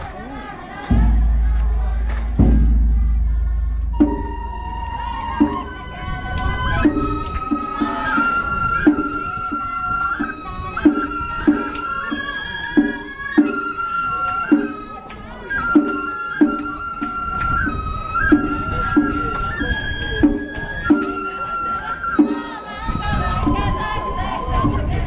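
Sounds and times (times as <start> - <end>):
regular drum beats: 0.7 - 22.8
bamboo flute long sliding notes: 0.9 - 25.0.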